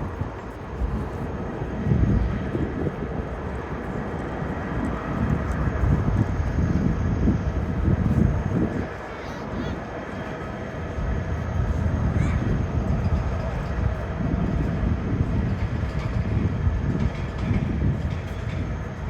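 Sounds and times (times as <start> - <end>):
jet engines rumbling: 0.0 - 19.0
wind buffeting microphone: 0.0 - 19.0.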